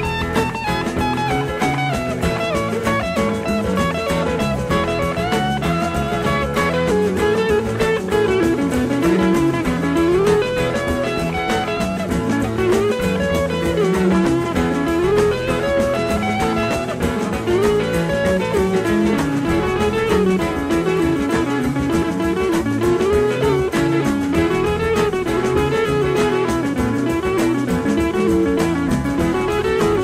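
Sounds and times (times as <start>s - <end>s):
upbeat guitar music with drums: 0.0s - 30.0s.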